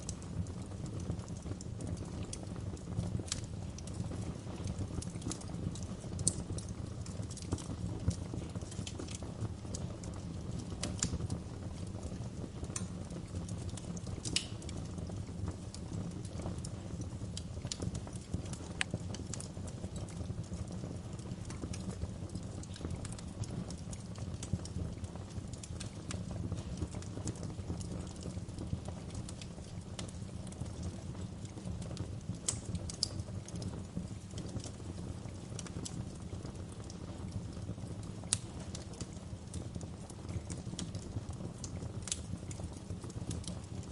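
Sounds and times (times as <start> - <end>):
fire crackles and pops: 0.0 - 43.9
low rumble of flames: 0.0 - 43.9.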